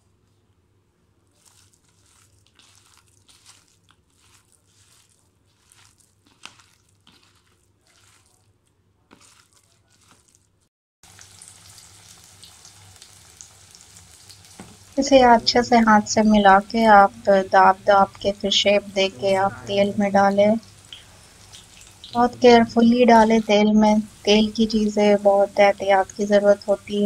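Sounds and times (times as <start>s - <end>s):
hands squishing batter: 1.2s - 10.7s, 14.4s - 27.0s
oil sizzling deep-frying: 1.3s - 8.4s, 9.1s - 27.0s.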